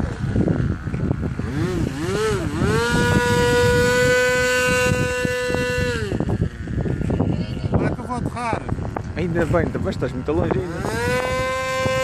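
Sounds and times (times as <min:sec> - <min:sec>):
model helicopter motor whining: 0:00.0 - 0:12.0
wind buffeting microphone: 0:00.0 - 0:12.0.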